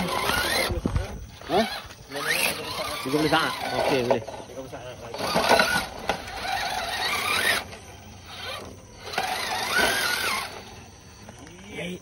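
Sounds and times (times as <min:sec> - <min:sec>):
electric motor and gears whining: 0:00.0 - 0:12.0.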